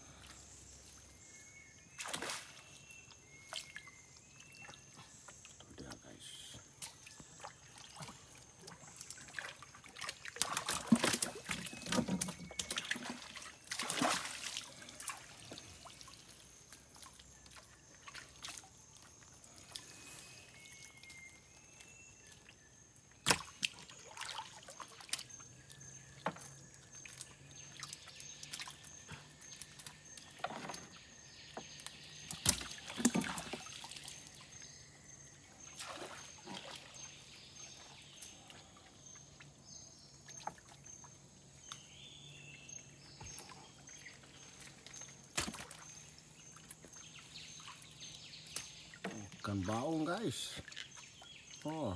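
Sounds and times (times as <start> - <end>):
water sloshing and dripping: 1.9 - 6.1, 6.8 - 42.0, 42.7 - 51.9.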